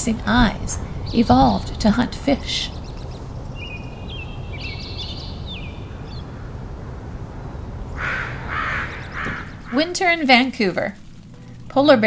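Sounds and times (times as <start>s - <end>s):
low background rumble: 0.0s - 12.0s
small birds chirping: 0.0s - 12.0s
rough bird calls: 0.4s - 11.8s.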